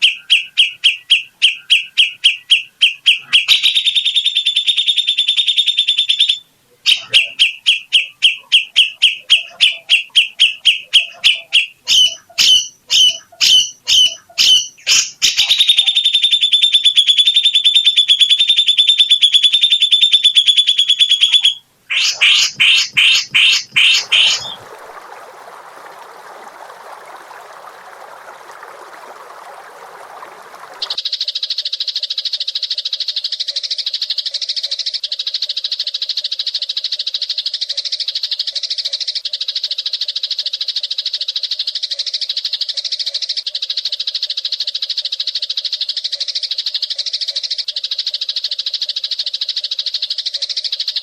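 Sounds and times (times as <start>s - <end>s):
songbird trills: 0.0s - 24.7s, 30.0s - 51.0s.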